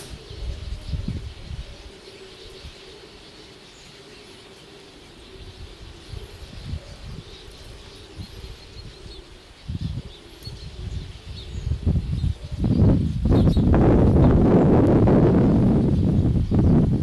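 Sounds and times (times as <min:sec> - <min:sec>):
flock of birds chattering: 0:00.0 - 0:14.5.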